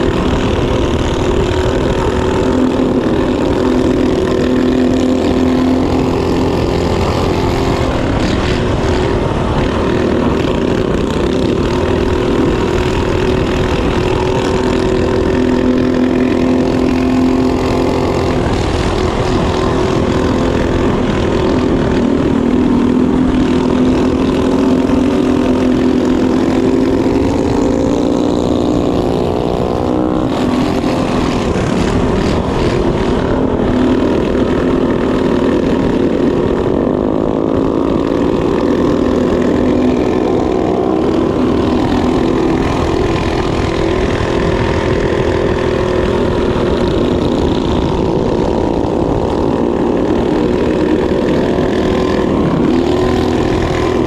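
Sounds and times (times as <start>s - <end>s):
small motorbike engine revving: 0.0s - 54.0s.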